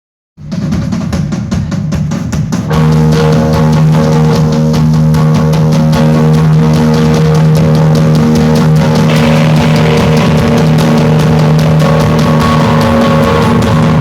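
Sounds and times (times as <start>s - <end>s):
drums playing fast beat: 0.4s - 14.0s
rock band playing live: 2.7s - 14.0s.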